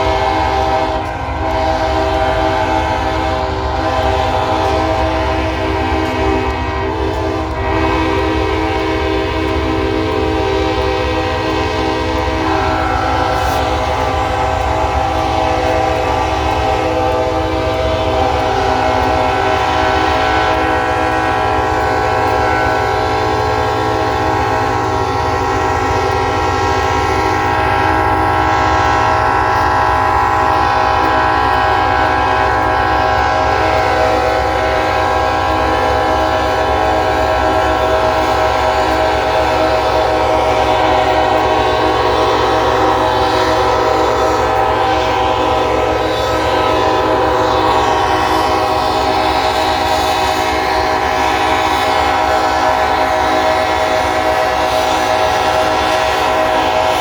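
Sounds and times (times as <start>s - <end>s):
locomotive horns blowing together: 0.0s - 57.0s.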